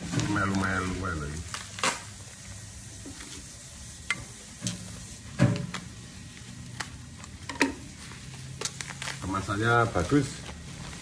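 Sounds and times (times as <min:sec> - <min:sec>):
plastic crinkling: 0:00.0 - 0:11.0.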